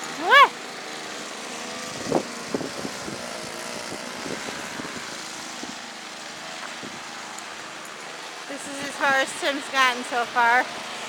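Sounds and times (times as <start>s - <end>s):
snow blower engine running: 0.0s - 11.0s.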